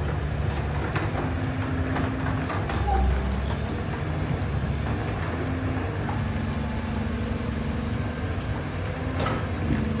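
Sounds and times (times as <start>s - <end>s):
excavator diesel engine rumbling: 0.0s - 10.0s.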